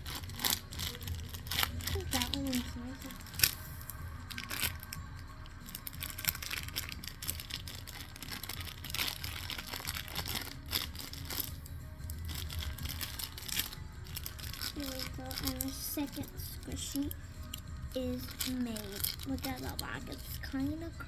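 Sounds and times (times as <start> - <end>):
paper and tape crinkling: 0.0 - 20.9.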